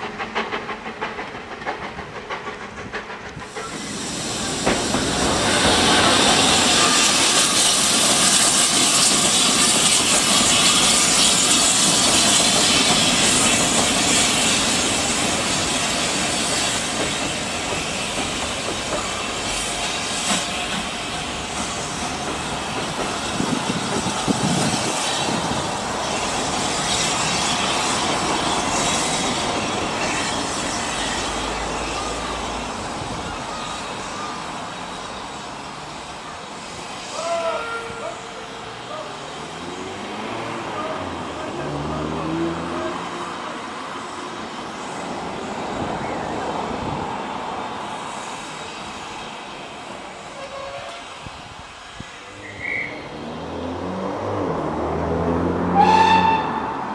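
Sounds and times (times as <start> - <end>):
steam hissing: 0.0 - 56.9
train rumbling: 0.0 - 56.9.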